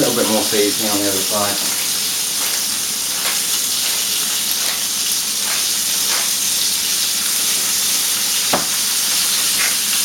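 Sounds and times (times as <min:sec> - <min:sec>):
chicken sizzling in a hot pan: 0:00.0 - 0:10.0.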